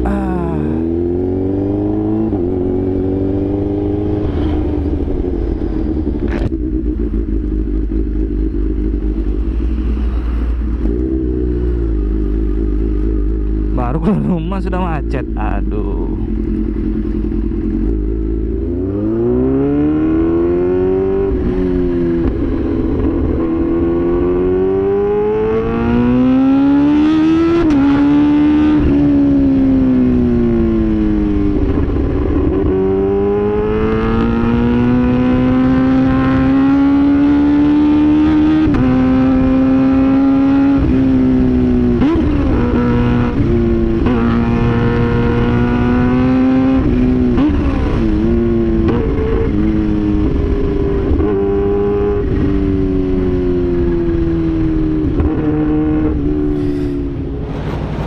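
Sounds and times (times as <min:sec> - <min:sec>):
motorcycle accelerating: 0:00.0 - 0:58.0
wind and road noise: 0:00.7 - 0:58.0.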